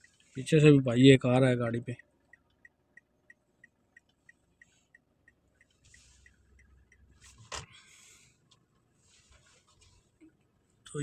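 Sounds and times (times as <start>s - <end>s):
turn signal ticking: 0.0s - 11.0s.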